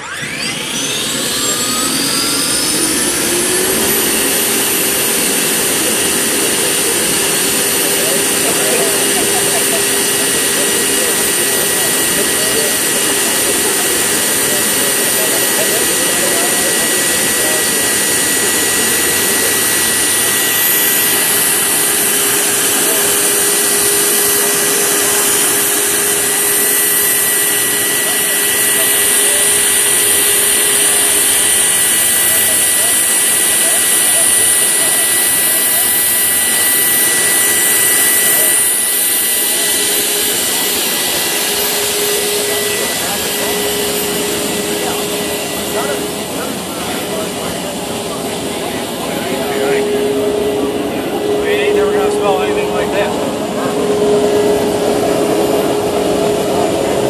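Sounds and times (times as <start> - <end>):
turbine engine whine: 0.0 - 57.0.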